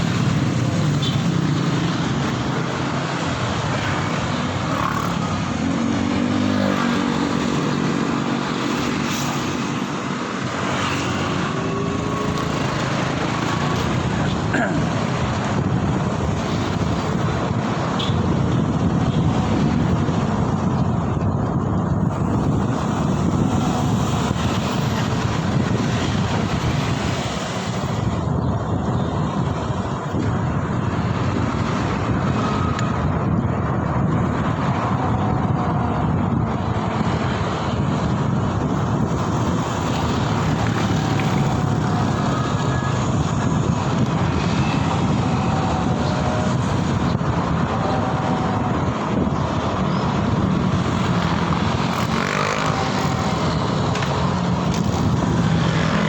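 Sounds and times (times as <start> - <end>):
road and traffic rumble: 0.0 - 56.0
wind rushing over microphone: 0.0 - 56.0.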